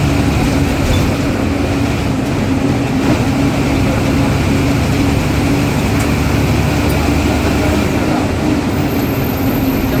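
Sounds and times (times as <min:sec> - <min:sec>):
diesel bus engine droning: 0:00.0 - 0:10.0
road noise: 0:00.0 - 0:10.0.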